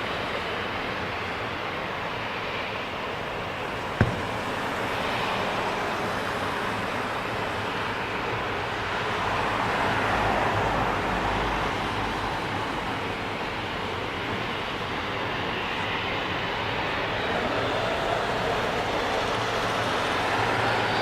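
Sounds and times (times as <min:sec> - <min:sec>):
jet engines running: 0:00.0 - 0:11.1, 0:11.8 - 0:21.0.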